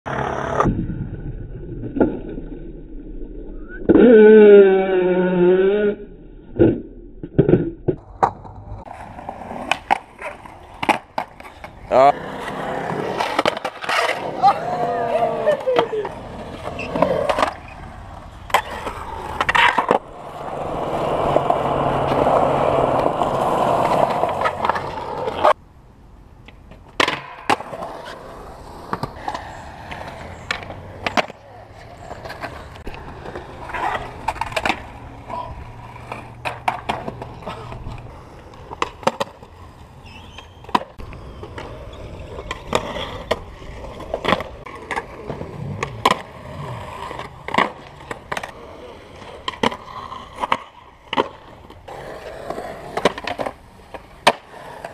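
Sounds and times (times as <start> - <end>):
skateboard wheels rolling on concrete: 0.0 - 54.9
skateboard clacking on concrete: 7.3 - 25.6, 26.4 - 54.9.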